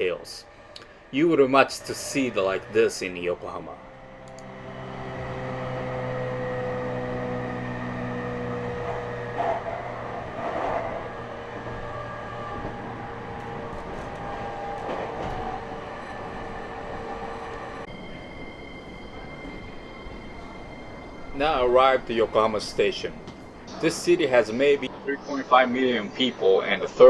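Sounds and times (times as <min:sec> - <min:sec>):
train clatters: 0:00.0 - 0:25.6
electric train running: 0:00.0 - 0:27.0.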